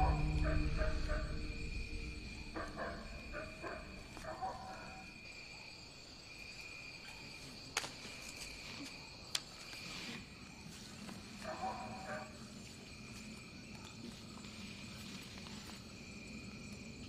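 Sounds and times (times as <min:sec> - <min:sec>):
night insects chorus: 0:00.0 - 0:17.0.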